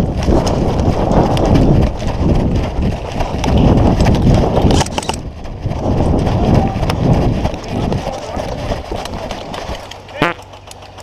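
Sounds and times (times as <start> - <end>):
running footsteps thudding: 0.0 - 11.0.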